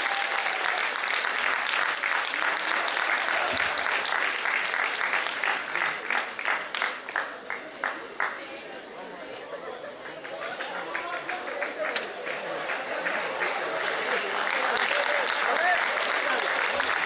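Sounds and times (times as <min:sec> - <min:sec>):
audience applauding: 0:00.0 - 0:08.6, 0:09.9 - 0:17.0.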